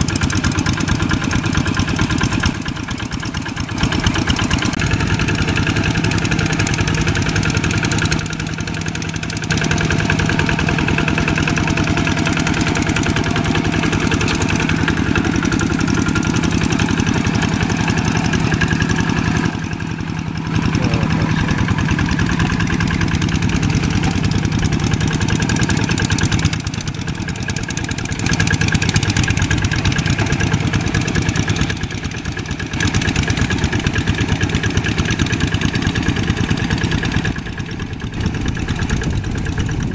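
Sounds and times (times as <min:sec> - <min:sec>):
old tractor engine running: 0:00.0 - 0:39.9.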